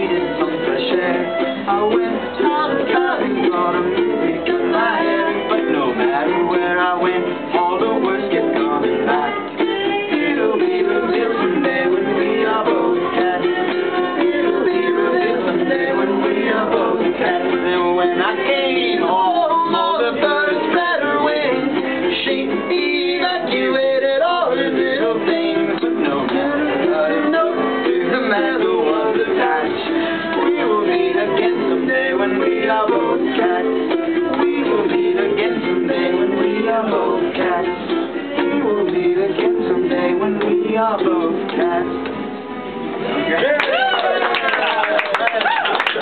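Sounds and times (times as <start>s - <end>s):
ukulele strummed and picked: 0.0s - 44.1s.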